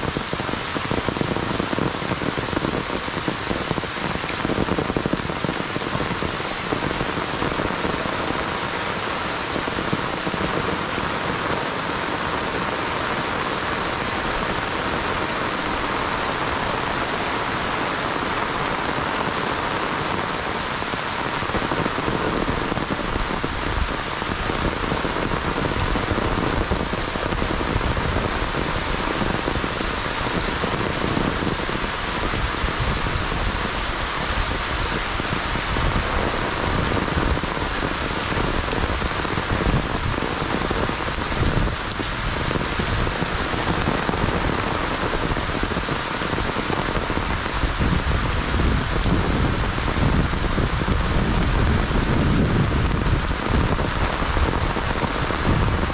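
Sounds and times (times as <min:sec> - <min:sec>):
heavy rain on leaves: 0:00.0 - 0:55.9.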